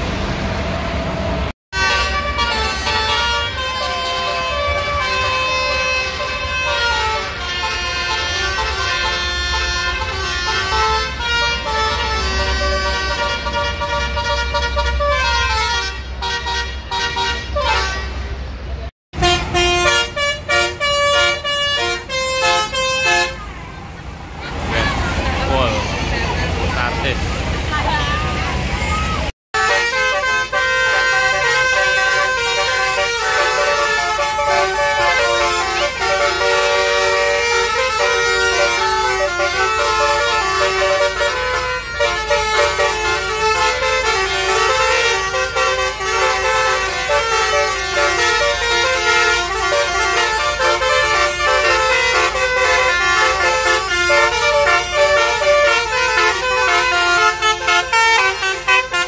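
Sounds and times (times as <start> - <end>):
air horn playing a tune: 1.7 - 18.3, 19.1 - 23.4, 29.5 - 59.0.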